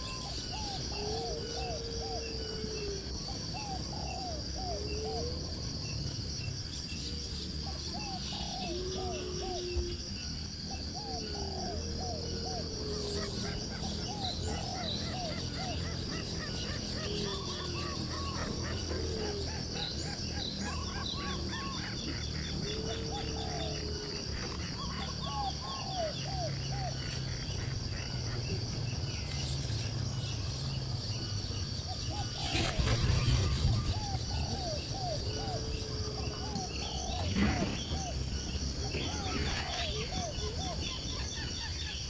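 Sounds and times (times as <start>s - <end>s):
high insect drone: 0.0s - 42.0s
small birds chirping: 0.0s - 42.0s.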